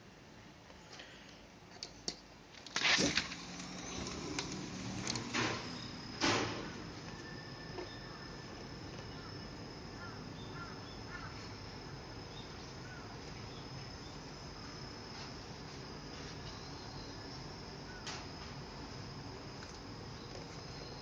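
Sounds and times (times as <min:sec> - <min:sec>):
crickets trilling: 0:02.7 - 0:21.0.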